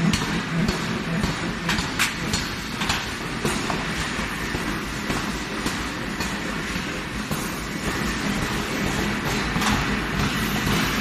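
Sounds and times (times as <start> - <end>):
low machine hum: 0.0 - 11.0
steel balls rolling on a conveyor: 0.0 - 11.0.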